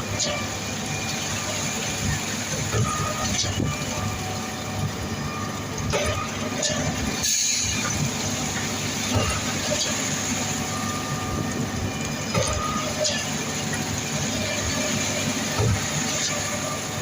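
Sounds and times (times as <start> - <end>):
heavy engine and hydraulic drone: 0.0 - 17.0.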